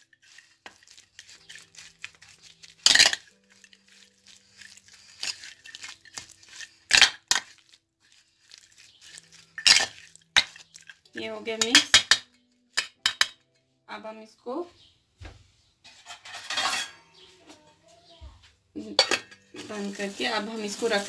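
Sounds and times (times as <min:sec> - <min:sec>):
stirring and scraping in a bowl: 0:00.0 - 0:13.4, 0:15.8 - 0:18.1, 0:18.9 - 0:21.0.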